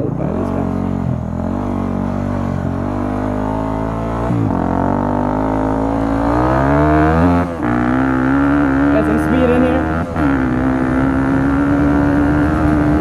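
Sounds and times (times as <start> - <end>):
dirt bike engine accelerating: 0.0 - 13.0.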